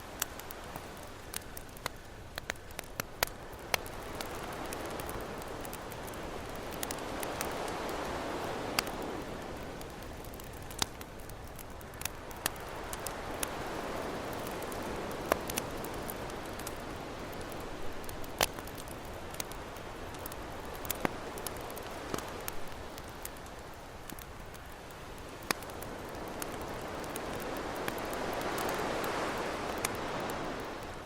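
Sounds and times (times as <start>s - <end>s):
campfire crackling and popping: 0.0s - 31.0s
ocean waves: 3.2s - 23.3s, 25.1s - 31.0s.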